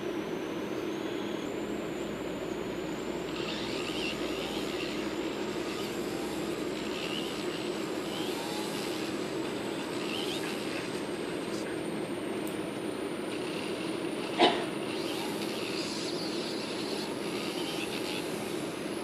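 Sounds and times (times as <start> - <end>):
mechanical whirring: 0.0 - 19.0.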